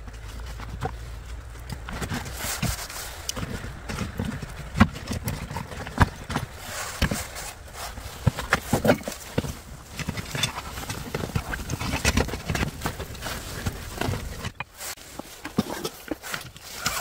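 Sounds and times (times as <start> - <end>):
fabric rustling: 0.0 - 17.0.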